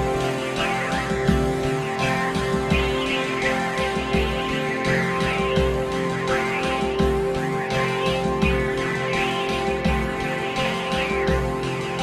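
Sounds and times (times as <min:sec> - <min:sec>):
sustained steady tones: 0:00.0 - 0:12.0.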